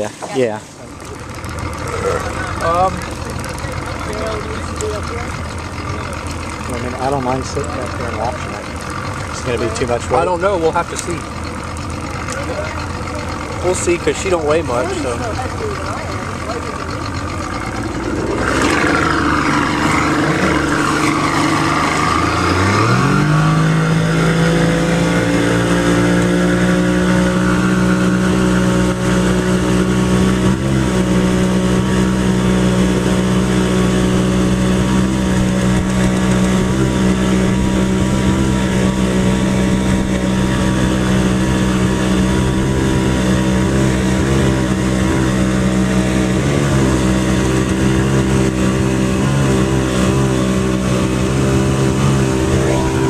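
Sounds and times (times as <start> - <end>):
watercraft engine accelerating: 0.0 - 53.0.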